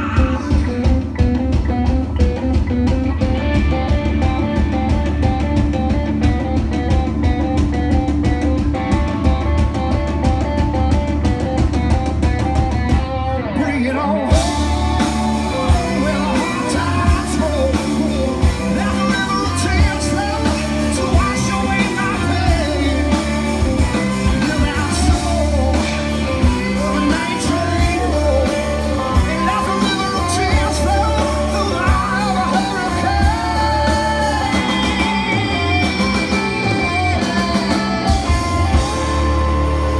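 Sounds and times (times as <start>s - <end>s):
bending guitar melody: 0.0s - 39.9s
live rock band playing: 0.0s - 39.9s.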